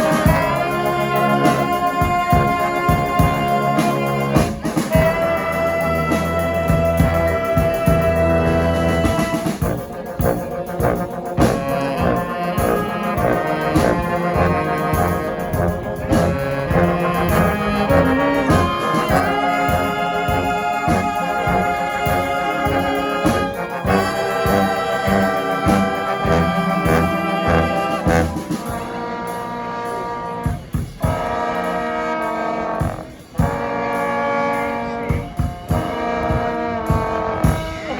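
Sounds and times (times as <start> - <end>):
brass band playing: 0.0 - 37.9.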